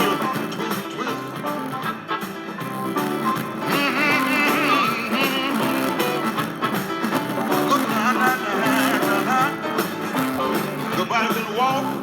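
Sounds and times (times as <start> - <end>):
speaker buzzing: 0.0 - 11.0
rock song with singing and guitar: 0.0 - 12.0.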